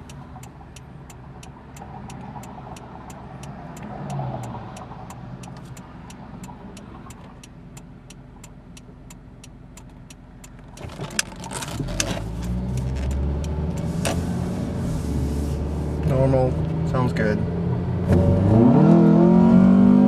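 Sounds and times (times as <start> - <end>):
turn signal ticking: 0.0 - 17.1
car engine running: 0.0 - 19.3
road noise: 0.0 - 20.0.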